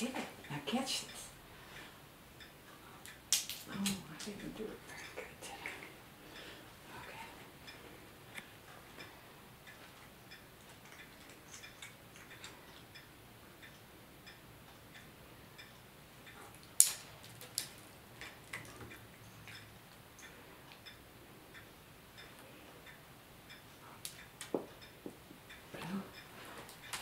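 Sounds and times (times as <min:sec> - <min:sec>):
wall clock ticking: 0:00.0 - 0:27.0.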